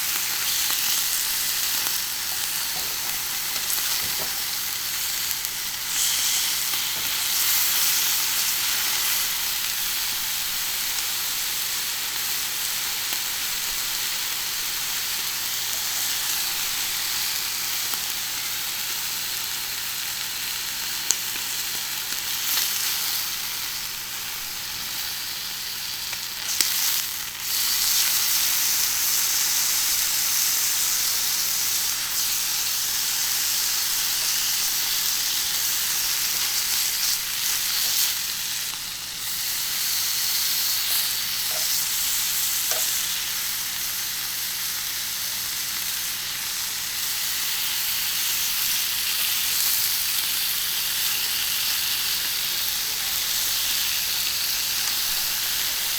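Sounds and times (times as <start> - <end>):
meat sizzling on a griddle: 0.0 - 55.9.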